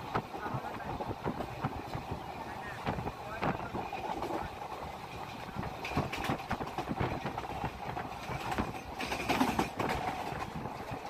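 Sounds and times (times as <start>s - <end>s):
train rumble: 0.0s - 11.0s
wheels clacking over rail joints: 0.0s - 11.0s.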